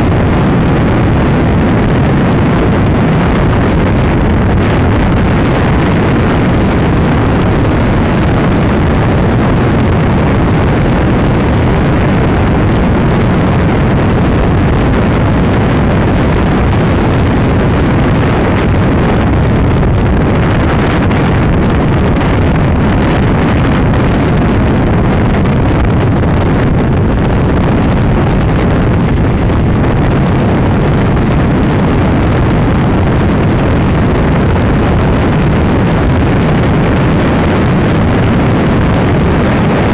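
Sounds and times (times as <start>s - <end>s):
motorcycle engine at high speed: 0.0s - 39.9s
wind buffeting microphone: 0.0s - 39.9s.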